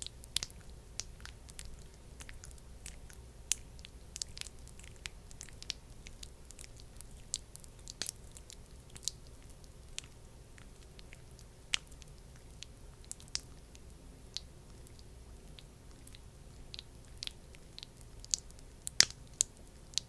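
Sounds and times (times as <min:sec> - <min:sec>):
wet clicks and squishes: 0:00.0 - 0:20.0.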